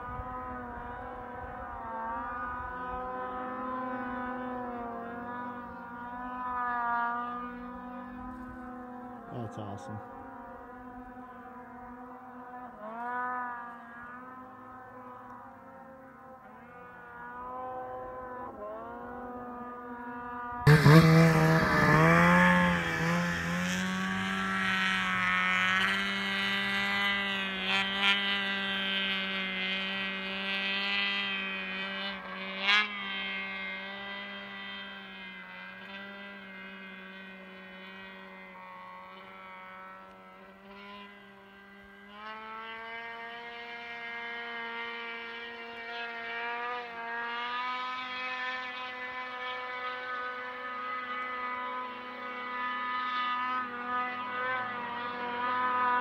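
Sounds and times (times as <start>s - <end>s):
distant snowmobile engine revving: 0.0s - 56.0s.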